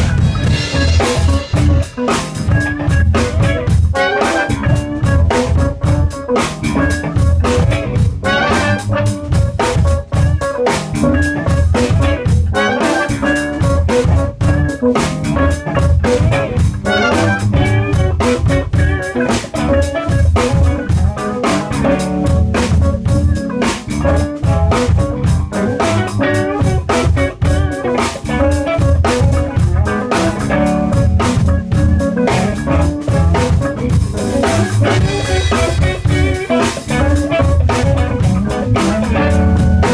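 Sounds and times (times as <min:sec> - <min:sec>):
drum hits: 0:00.0 - 0:39.9
live band playing: 0:00.0 - 0:39.9.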